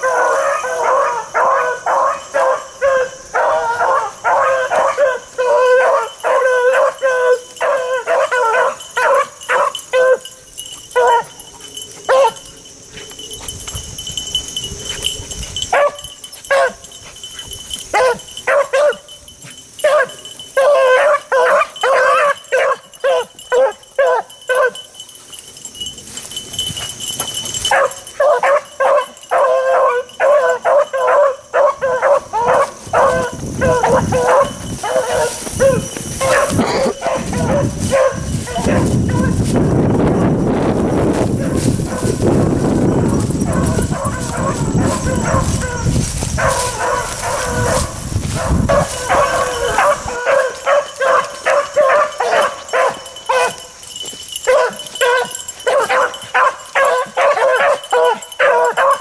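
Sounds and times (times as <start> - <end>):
hound barking: 0.0 - 12.6, 14.8 - 19.2, 19.8 - 25.0, 27.2 - 39.7, 41.3 - 59.0.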